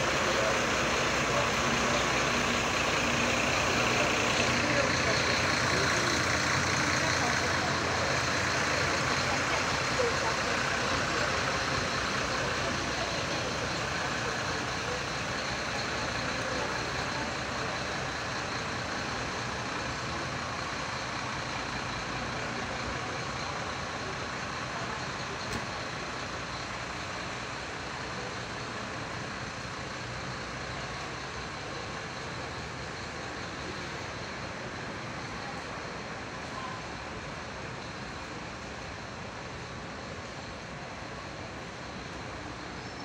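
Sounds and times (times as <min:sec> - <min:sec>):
buses and traffic idling: 0:00.0 - 0:43.0.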